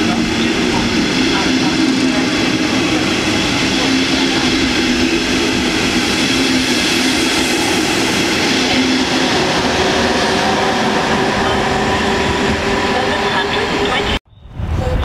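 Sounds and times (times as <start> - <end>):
electric locomotive hum: 0.0 - 14.2
train coaches rolling by: 0.0 - 14.2.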